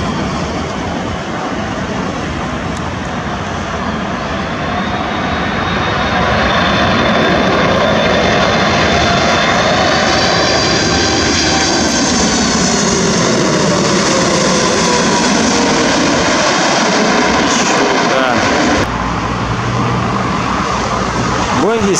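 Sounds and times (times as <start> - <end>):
jet engines roaring overhead: 0.0 - 21.9.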